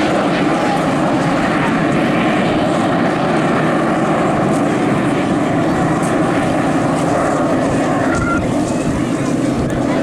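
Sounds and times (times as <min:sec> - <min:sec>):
jet engine in flight: 0:00.0 - 0:10.0.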